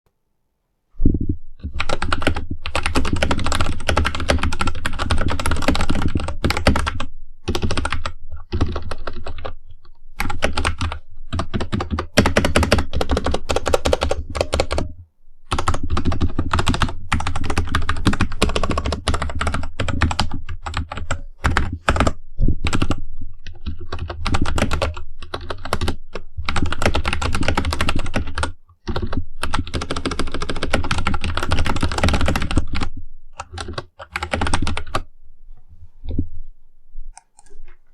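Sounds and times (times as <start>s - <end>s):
mechanical keyboard typing: 1.6s - 9.6s, 10.2s - 14.9s, 15.5s - 35.0s.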